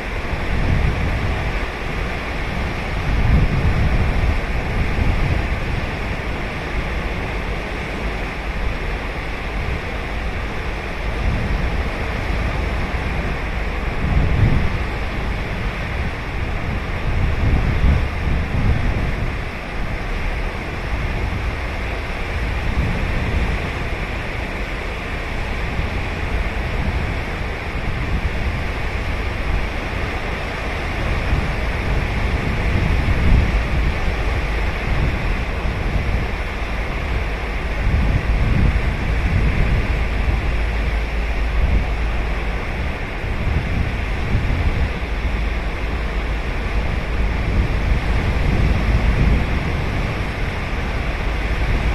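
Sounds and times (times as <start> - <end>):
ocean surf on sandy beach: 0.0 - 51.9.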